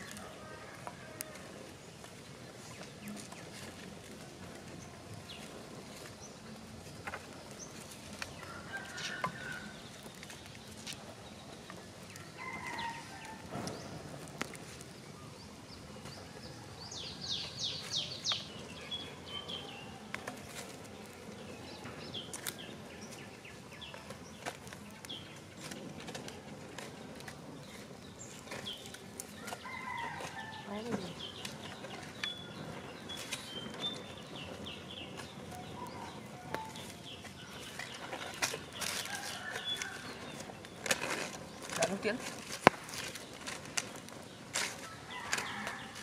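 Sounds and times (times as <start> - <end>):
birds calling: 0.0 - 46.0
wood fire crackling: 0.0 - 46.0.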